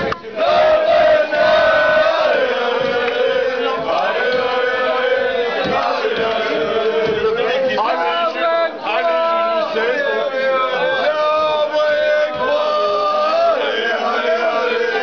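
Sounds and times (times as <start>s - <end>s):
crowd singing in unison: 0.0s - 15.0s.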